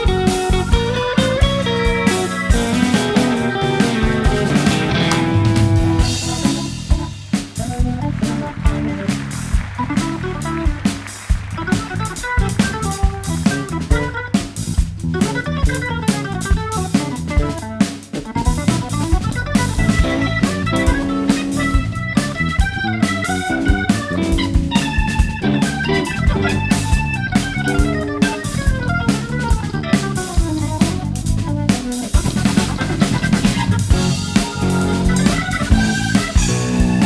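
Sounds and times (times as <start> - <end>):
jazz-rock band playing: 0.0 - 37.0.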